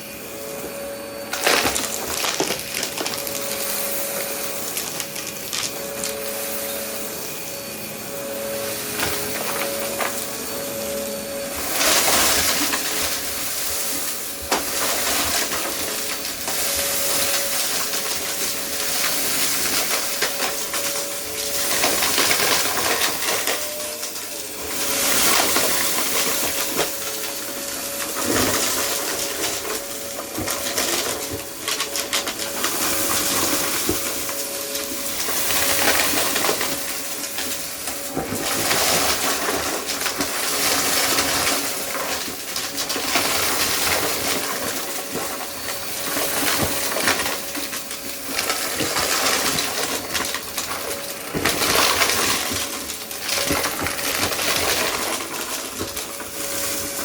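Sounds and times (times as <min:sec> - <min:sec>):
debris clattering in vacuum: 0:00.0 - 0:57.0
vacuum cleaner motor whine: 0:00.0 - 0:57.0.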